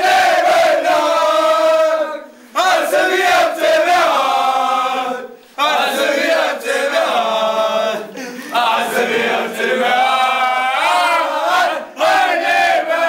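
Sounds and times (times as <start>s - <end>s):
young men singing a chant: 0.0s - 13.0s.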